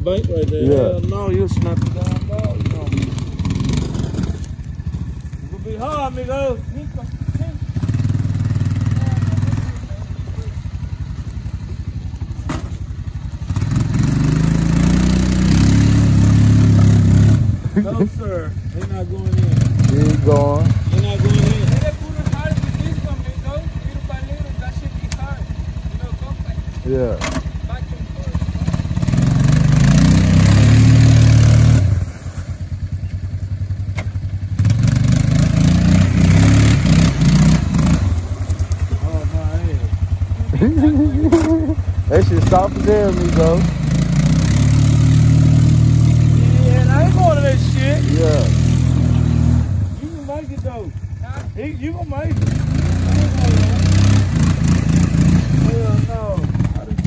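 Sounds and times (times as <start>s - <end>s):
quad engine idling and revving: 0.0s - 57.0s
tires spinning in mud: 0.0s - 57.0s
tyres churning through muddy water: 0.0s - 57.0s.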